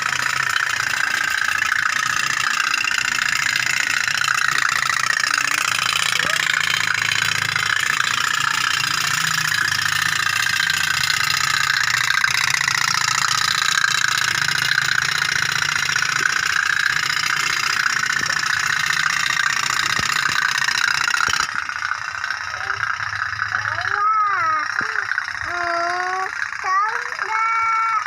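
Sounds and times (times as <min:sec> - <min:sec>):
toy steam boat putt-putt: 0:00.0 - 0:28.0.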